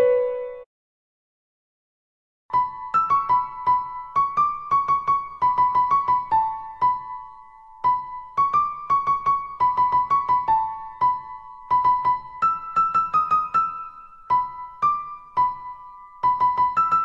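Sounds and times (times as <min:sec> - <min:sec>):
light keyboard melody: 0:00.0 - 0:00.7, 0:02.5 - 0:17.0.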